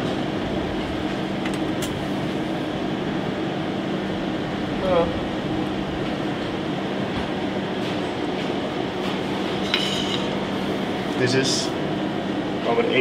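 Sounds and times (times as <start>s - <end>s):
kitchen ventilation humming: 0.0s - 13.0s.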